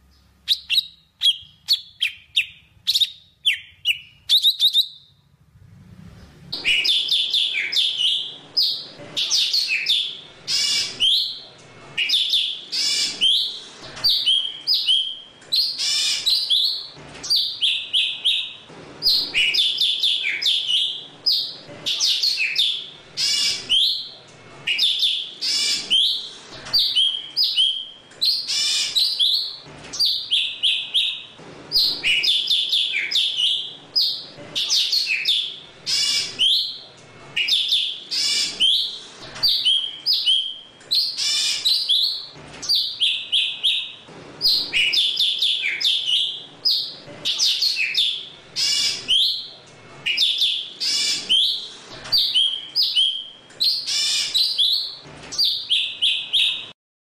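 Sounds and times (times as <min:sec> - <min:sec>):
bird chirping and whistling: 0:00.4 - 0:05.2, 0:06.6 - 0:11.4, 0:12.0 - 0:24.1, 0:24.7 - 0:36.8, 0:37.4 - 0:56.7.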